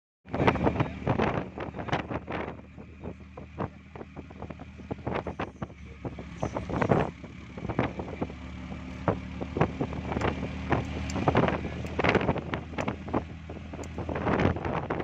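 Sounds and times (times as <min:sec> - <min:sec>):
wind on the microphone: 0:00.3 - 0:08.3, 0:09.0 - 0:15.0
motor running: 0:00.4 - 0:15.0.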